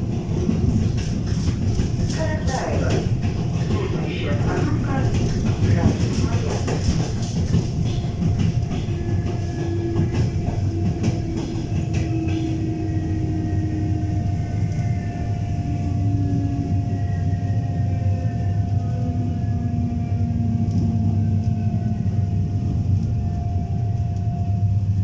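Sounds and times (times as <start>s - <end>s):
train rumbling on rails: 0.0s - 25.0s
train traction motor whine: 0.0s - 25.0s.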